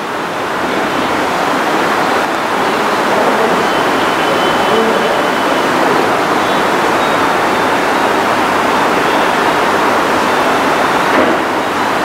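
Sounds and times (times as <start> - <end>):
rushing background hiss: 0.0 - 12.0.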